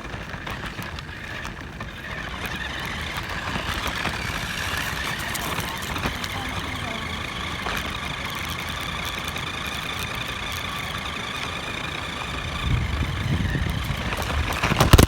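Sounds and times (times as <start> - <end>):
car rumbling over ground: 0.0 - 15.0
toy car motor whining: 0.0 - 15.0.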